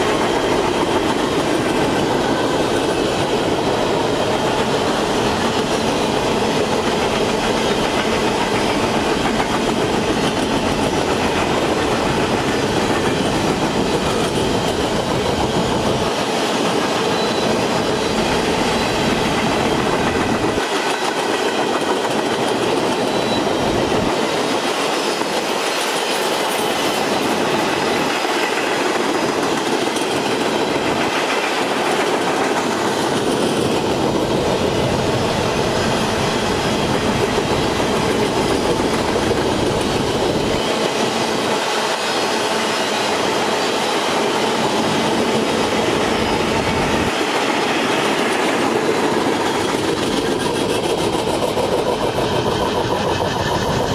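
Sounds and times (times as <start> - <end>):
steel train wheels on rails: 0.0 - 53.9.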